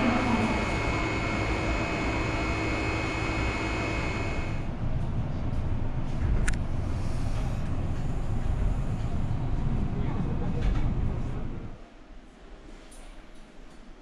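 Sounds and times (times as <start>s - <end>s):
low rumble inside train carriage: 0.0s - 14.0s
subway train hum: 0.0s - 14.0s.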